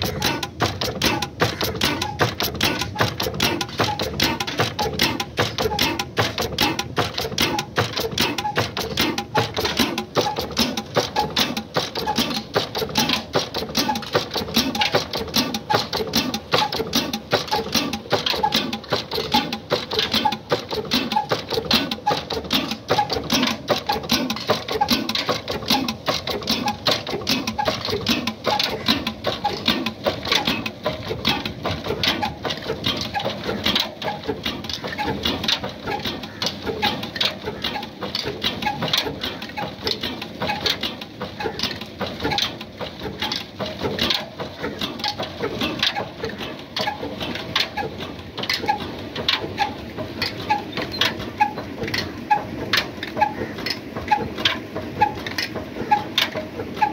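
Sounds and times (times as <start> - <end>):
diesel engine knocking steadily: 0.0 - 56.9.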